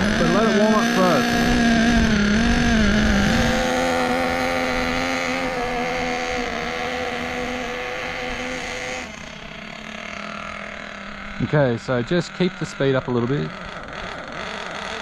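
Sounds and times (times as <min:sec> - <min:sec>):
nitro engine running: 0:00.0 - 0:15.0.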